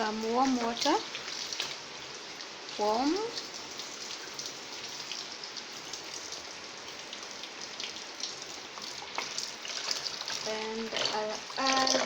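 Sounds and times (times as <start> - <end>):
water drips and splashes: 0.0 - 12.0
water pouring into a container: 0.2 - 12.0.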